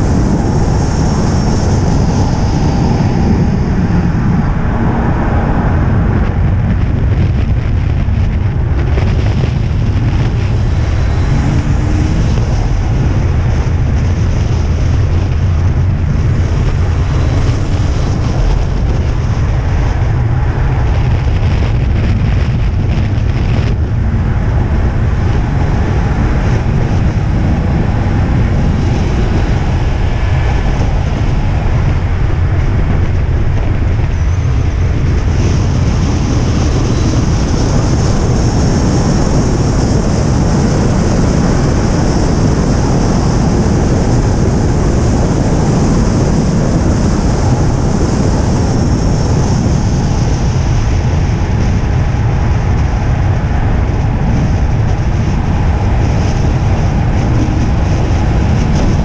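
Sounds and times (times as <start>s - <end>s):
car engine rumbling: 0.0s - 59.0s
wind: 0.0s - 59.0s.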